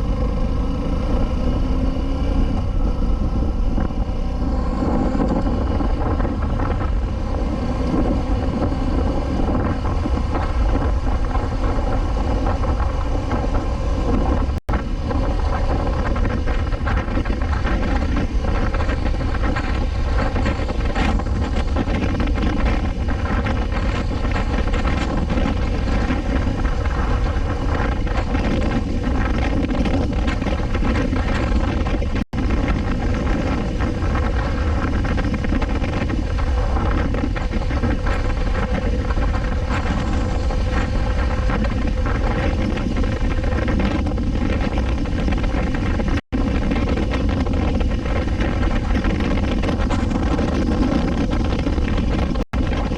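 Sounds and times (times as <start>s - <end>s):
motorcycle engine cruising: 0.0s - 52.9s
wind noise on microphone: 0.0s - 52.9s.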